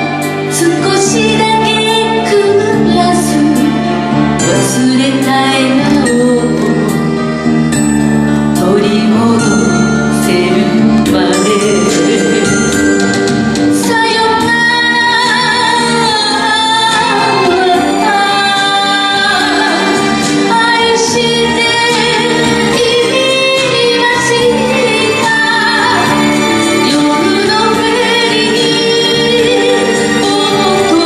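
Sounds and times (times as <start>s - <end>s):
woman singing a ballad: 0.0s - 7.5s, 8.5s - 31.0s
instrumental accompaniment: 0.0s - 31.0s.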